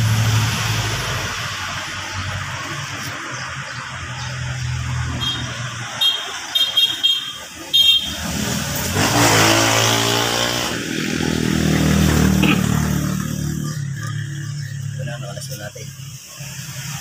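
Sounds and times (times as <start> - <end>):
vehicle engine passing by: 0.0 - 6.0, 8.1 - 17.0.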